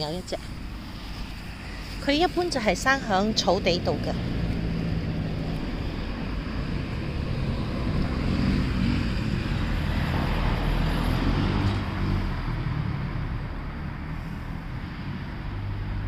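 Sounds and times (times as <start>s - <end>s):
vehicle engine passing: 0.0s - 16.0s.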